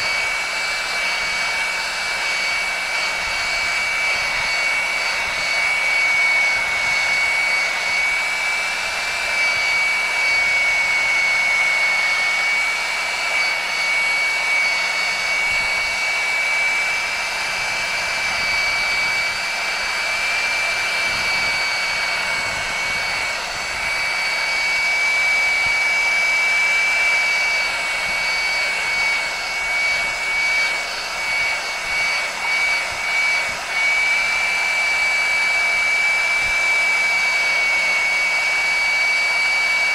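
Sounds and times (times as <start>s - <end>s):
heat gun blowing air: 0.0s - 39.9s
high whine: 0.0s - 39.9s.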